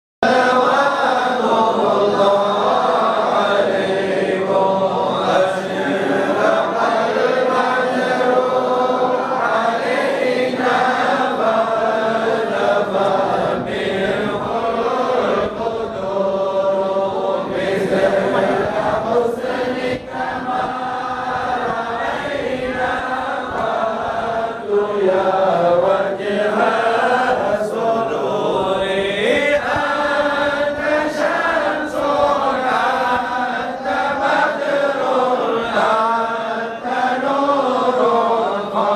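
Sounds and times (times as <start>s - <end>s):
men chanting in unison: 0.2s - 38.9s.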